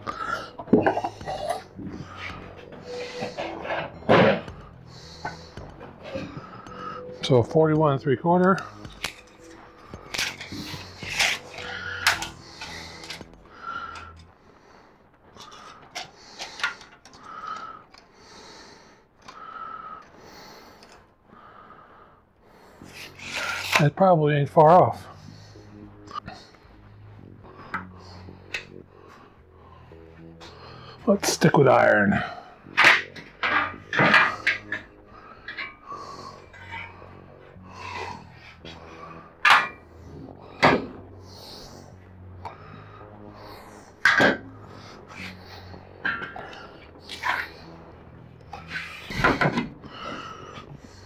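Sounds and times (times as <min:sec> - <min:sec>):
person breathing through nose: 0:00.0 - 0:07.2, 0:08.6 - 0:23.8, 0:25.0 - 0:31.1, 0:32.2 - 0:51.0.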